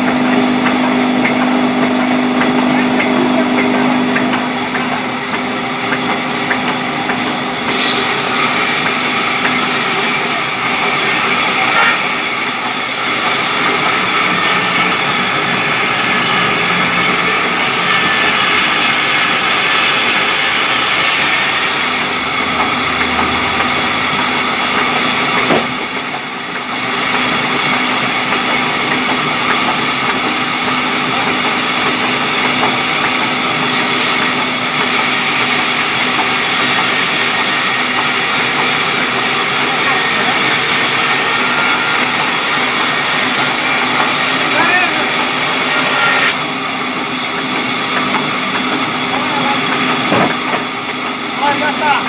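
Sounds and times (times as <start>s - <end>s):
band saw cutting log: 0.0s - 52.0s.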